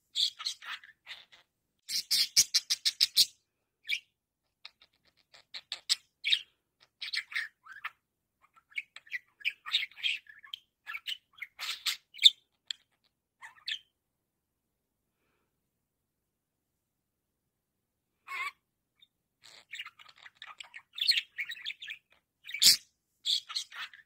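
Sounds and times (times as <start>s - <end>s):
budgerigar chirping and chattering: 0.1s - 13.9s, 18.3s - 24.0s.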